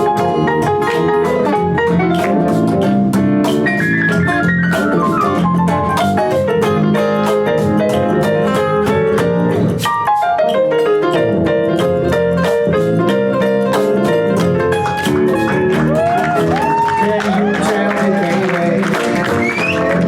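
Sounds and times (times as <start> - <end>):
steady drum beat: 0.0 - 20.0.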